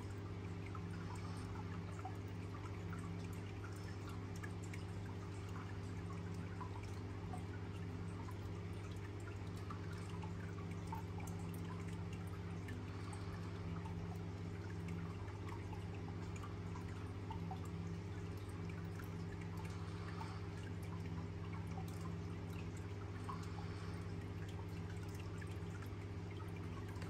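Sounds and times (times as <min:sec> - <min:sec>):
faint drip-like ticks: 0:00.0 - 0:27.0
low mechanical hum: 0:00.0 - 0:27.0.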